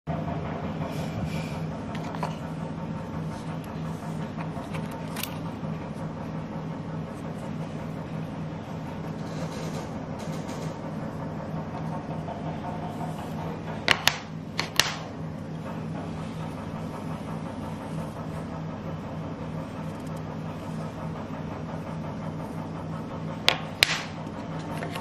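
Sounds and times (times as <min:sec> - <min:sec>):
steady low hum: 0:00.1 - 0:25.0.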